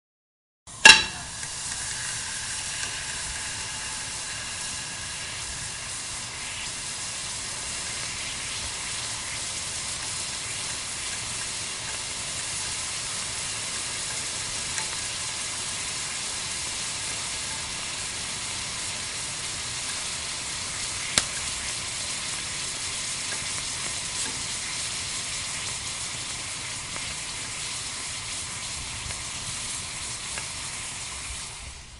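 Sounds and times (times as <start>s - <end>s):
melting ice crackling and fizzing: 0.8s - 31.9s.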